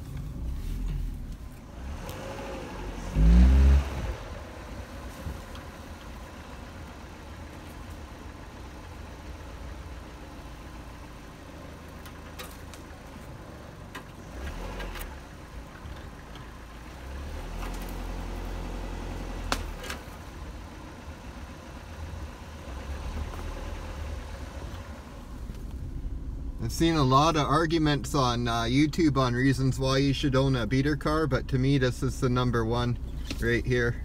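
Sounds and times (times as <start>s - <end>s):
car engine running at low speed: 0.0s - 34.0s.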